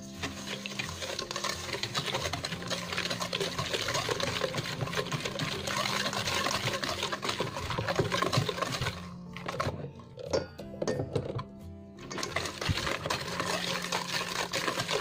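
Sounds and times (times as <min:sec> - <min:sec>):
batter sloshing: 0:00.0 - 0:10.3, 0:11.4 - 0:15.0
whisk clattering in metal bowl: 0:00.1 - 0:11.2, 0:12.0 - 0:15.0.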